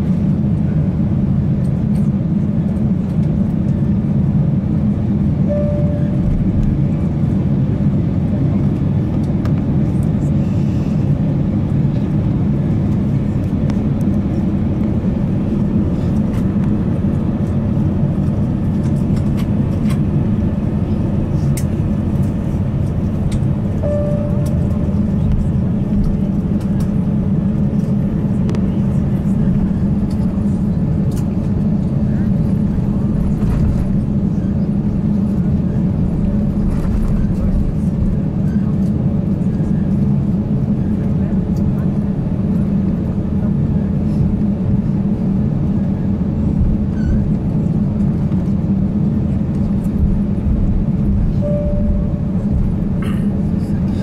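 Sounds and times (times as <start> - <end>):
aircraft cabin low rumble: 0.0 - 54.0.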